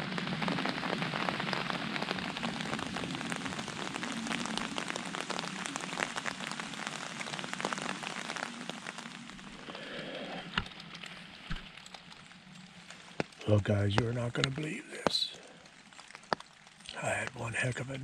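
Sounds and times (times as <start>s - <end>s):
rain on fabric umbrella: 0.0s - 18.0s.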